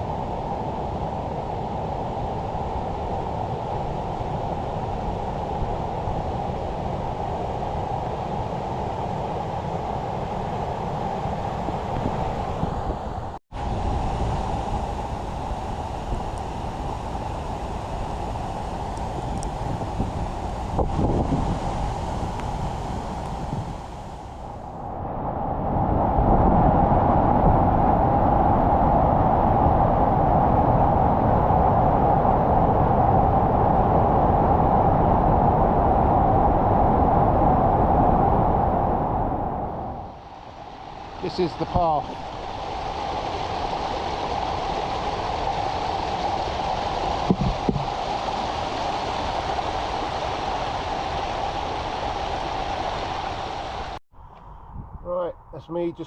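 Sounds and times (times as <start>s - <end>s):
wind buffeting microphone: 0.0s - 41.4s, 42.0s - 56.0s.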